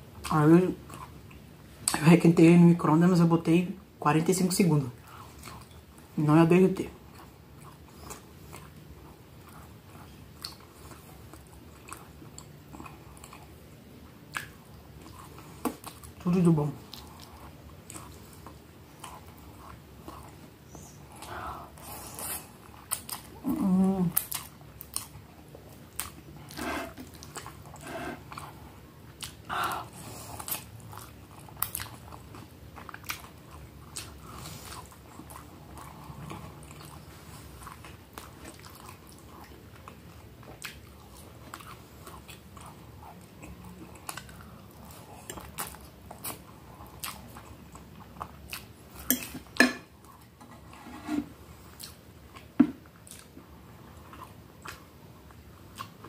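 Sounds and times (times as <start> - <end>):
person chewing food: 5.0 - 6.1, 7.0 - 16.2, 16.8 - 56.0.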